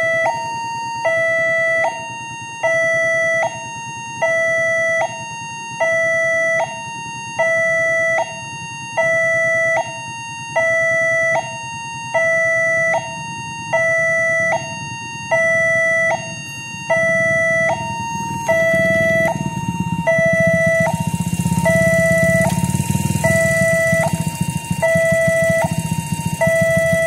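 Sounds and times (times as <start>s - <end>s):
two-tone level crossing alarm: 0.0s - 27.0s.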